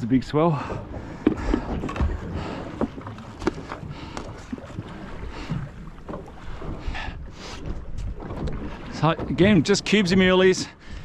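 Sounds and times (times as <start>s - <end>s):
sea washing against hull: 0.0s - 11.0s.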